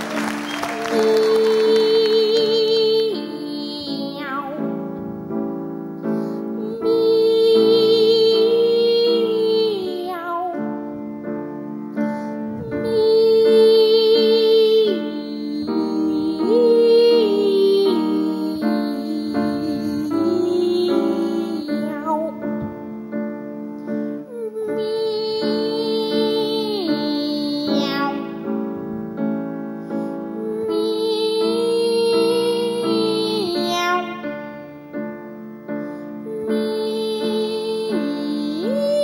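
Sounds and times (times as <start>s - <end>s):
grand piano chords: 0.0s - 39.0s.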